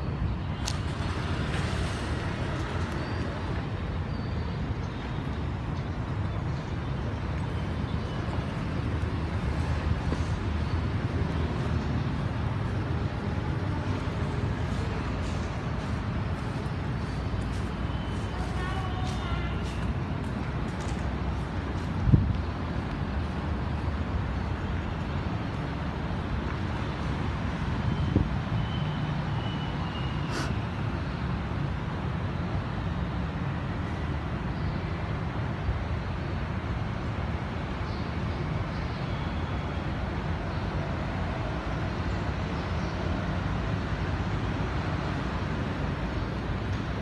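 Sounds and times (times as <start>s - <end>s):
road traffic hum: 0.0s - 47.0s.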